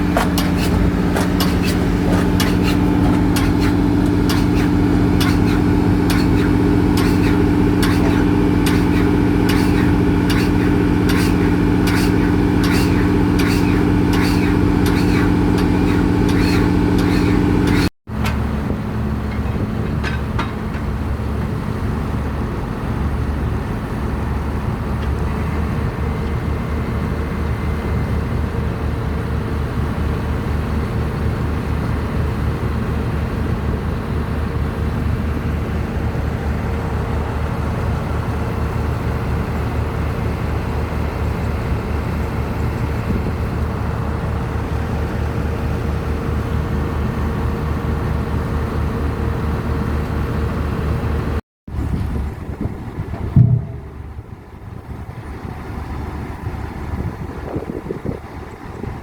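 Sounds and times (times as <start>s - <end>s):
large diesel engine running: 0.0s - 59.0s.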